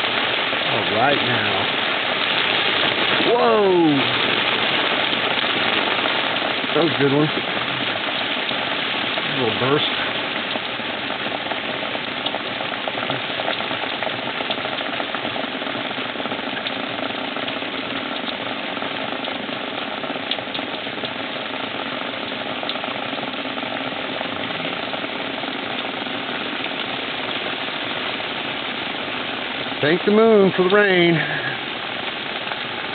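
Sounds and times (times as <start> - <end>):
heavy rain pouring: 0.0 - 32.9
sharp raindrop hits: 0.0 - 32.9.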